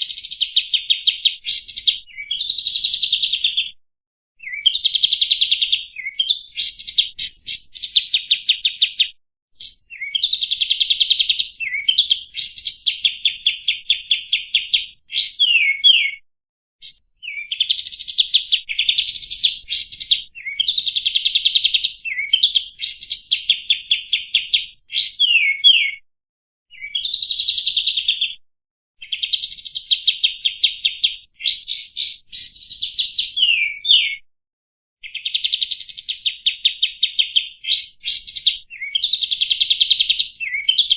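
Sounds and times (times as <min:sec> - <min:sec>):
songbird singing trills and whistles: 0:00.0 - 0:03.8, 0:04.4 - 0:16.2, 0:16.8 - 0:26.0, 0:26.7 - 0:28.4, 0:29.0 - 0:34.3, 0:35.0 - 0:40.9.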